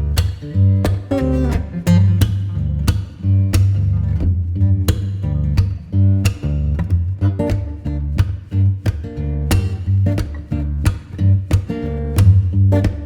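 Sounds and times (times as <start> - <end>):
bass line: 0.0 - 13.0
plucked guitar: 0.0 - 13.0.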